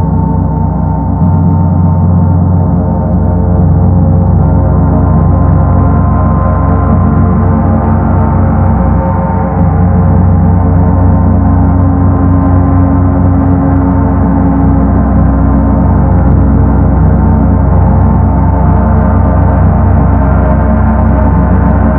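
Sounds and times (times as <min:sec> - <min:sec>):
gong rumbling: 0:00.0 - 0:21.9.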